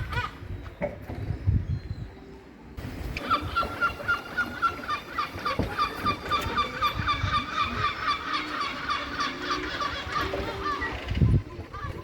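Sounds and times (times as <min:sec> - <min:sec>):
fainter lower bird calls: 0:00.0 - 0:12.0.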